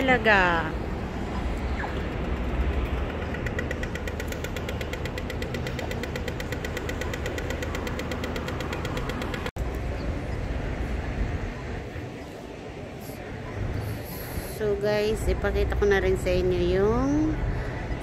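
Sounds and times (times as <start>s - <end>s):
low rumble of street traffic: 0.0s - 18.0s.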